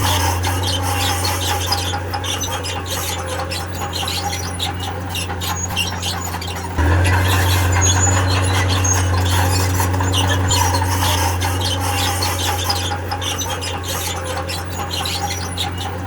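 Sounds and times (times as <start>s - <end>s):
diesel engine running under load: 0.0s - 16.0s
steel tracks squealing and scraping: 0.0s - 16.0s.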